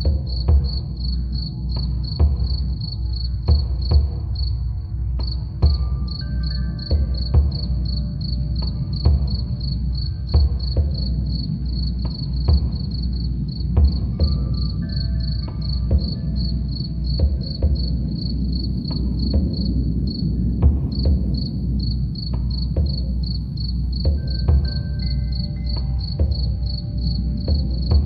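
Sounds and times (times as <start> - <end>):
crickets chirping: 0.0 - 28.0
soft low drumming: 0.0 - 28.0.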